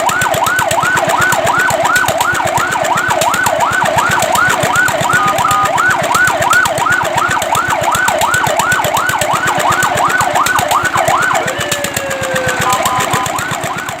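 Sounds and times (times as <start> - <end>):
fire truck siren yelping: 0.0 - 14.0.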